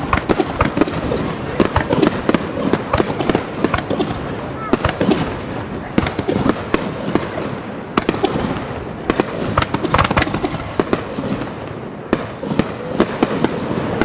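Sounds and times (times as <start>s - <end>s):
fireworks bangs: 0.0s - 14.0s
fireworks crackle: 0.0s - 14.0s.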